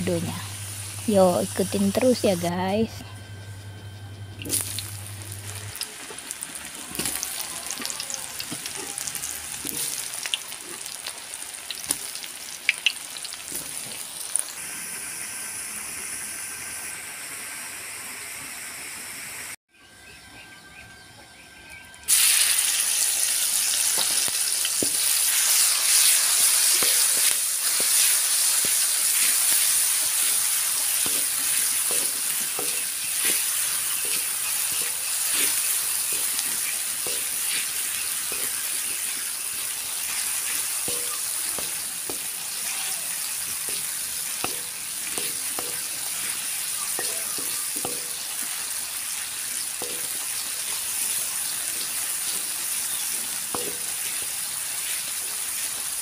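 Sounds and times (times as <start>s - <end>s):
hot oil sizzling and popping: 0.0s - 3.0s, 4.4s - 19.6s, 22.0s - 56.0s
spice paste frying in oil: 0.0s - 3.0s, 4.4s - 19.4s, 22.1s - 56.0s.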